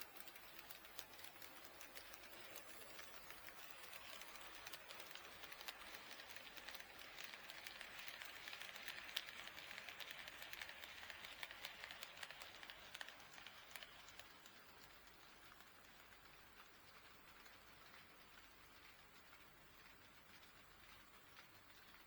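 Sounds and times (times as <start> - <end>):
model train motor whir: 0.0 - 22.0
wheels clicking over rail joints: 0.0 - 22.0.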